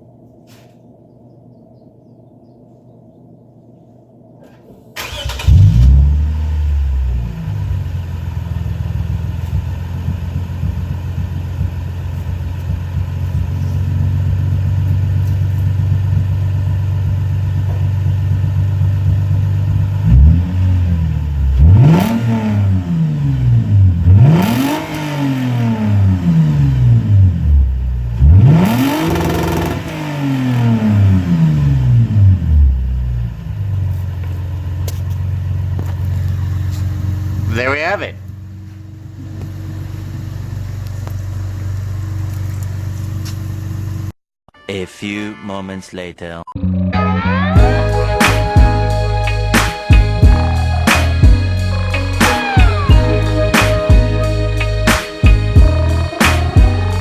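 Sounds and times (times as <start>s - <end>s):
car engine starting and idling: 4.5s - 44.2s, 46.6s - 57.0s
car engine revving: 5.0s - 44.1s, 46.6s - 57.0s.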